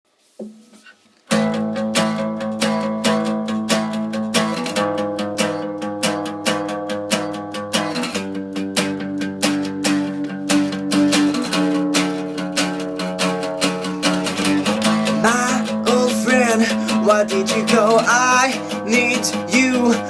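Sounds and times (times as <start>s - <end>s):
acoustic guitar strumming: 0.3s - 20.0s.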